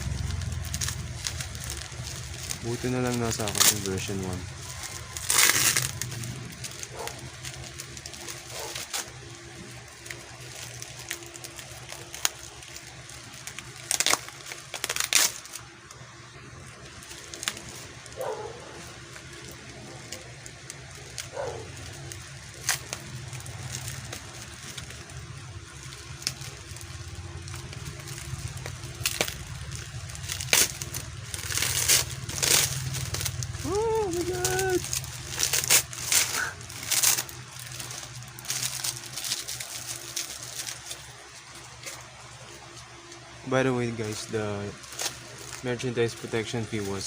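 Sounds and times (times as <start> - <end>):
low steady hum: 0.0 - 47.0
plastic packaging crinkling: 0.0 - 47.0.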